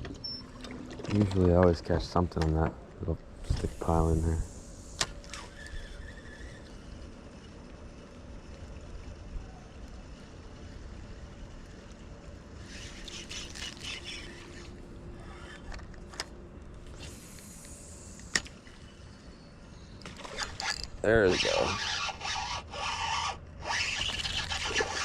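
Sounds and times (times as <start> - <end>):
river water trickling: 0.0 - 25.0.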